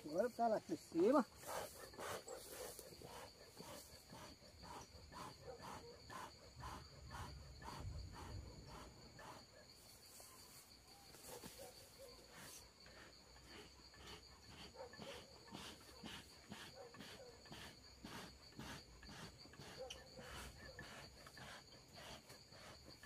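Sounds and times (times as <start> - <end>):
faint insects chirping: 0.0 - 23.0
high-pitched insect trill: 0.0 - 23.0.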